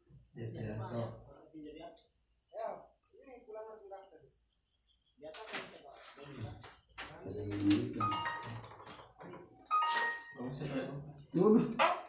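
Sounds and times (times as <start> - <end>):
high-pitched insect trill: 0.0 - 11.8.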